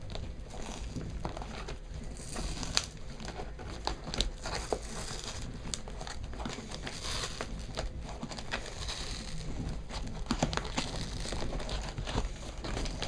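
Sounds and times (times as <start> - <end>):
packaging crinkling and rustling: 0.0 - 13.0
sharp crackles and clicks: 0.0 - 13.0.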